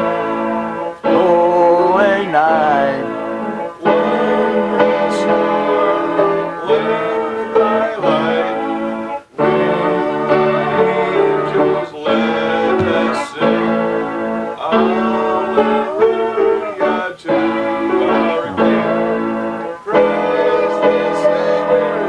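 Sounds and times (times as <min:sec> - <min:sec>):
keyboard playing held chords: 0:00.0 - 0:22.0.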